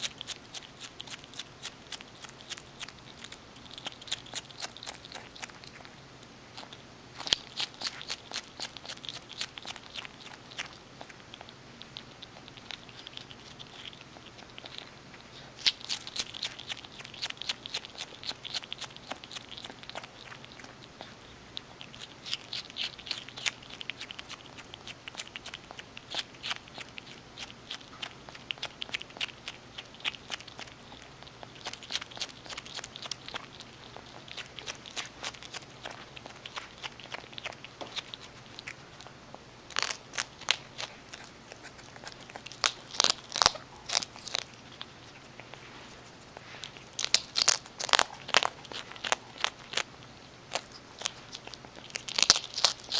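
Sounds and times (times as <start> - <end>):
animal chewing and crunching: 0.0 - 52.9.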